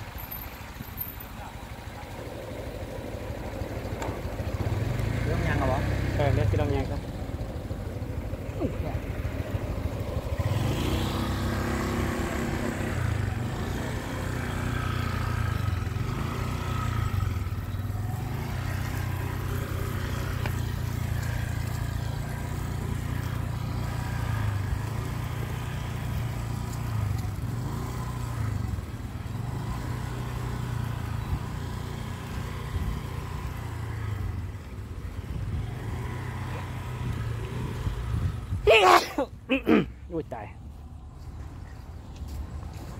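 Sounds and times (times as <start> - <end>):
small motorcycle engine running: 0.0 - 38.6.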